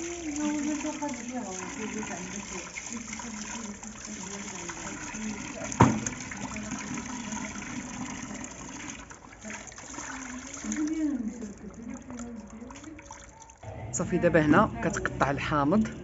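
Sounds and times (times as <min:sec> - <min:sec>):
water sloshing in a plastic tub: 0:00.0 - 0:13.6.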